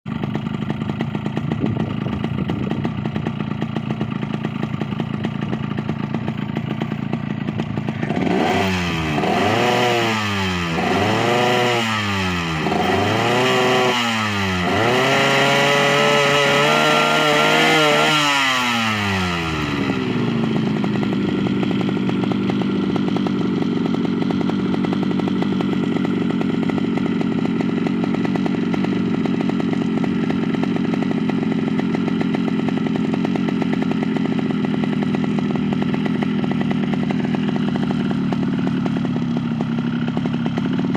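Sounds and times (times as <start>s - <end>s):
small petrol engine idling and revving: 0.0s - 40.9s.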